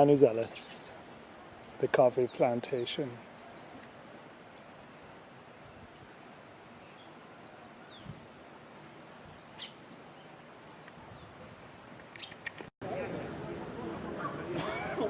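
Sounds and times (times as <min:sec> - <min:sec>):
bird chirps: 0:00.0 - 0:04.8, 0:05.4 - 0:13.3
high-pitched insect trill: 0:00.0 - 0:12.7
background hiss: 0:00.0 - 0:15.0.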